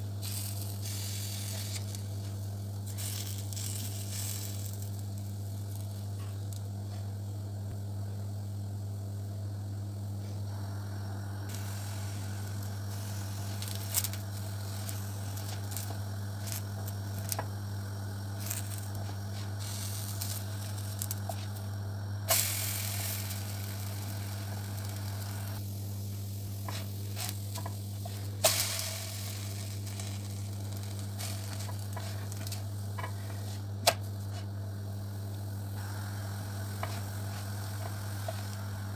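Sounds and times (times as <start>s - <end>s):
batter sizzling in pan: 0.0s - 38.9s
low hum: 0.0s - 38.9s.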